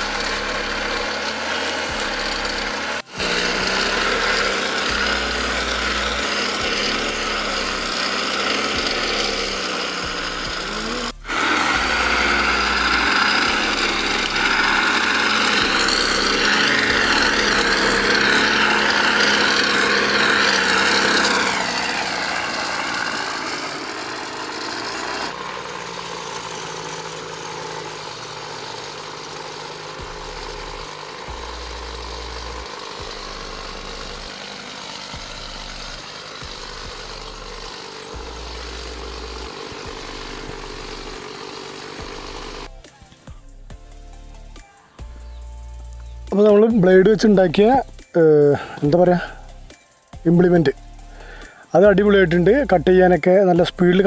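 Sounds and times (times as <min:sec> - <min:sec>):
blade cutting grass: 0:00.0 - 0:54.0
brush cutter engine running: 0:00.0 - 0:54.0.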